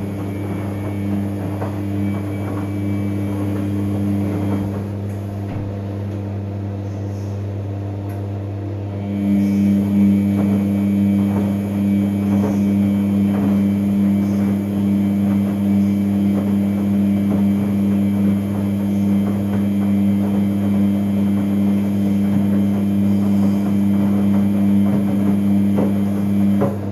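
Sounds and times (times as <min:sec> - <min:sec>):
washing machine humming drone: 0:00.0 - 0:26.9.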